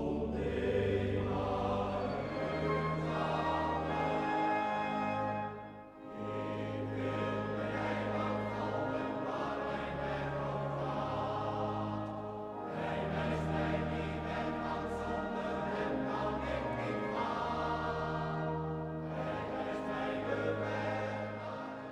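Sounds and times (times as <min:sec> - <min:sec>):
men's choir singing: 0:00.0 - 0:21.9.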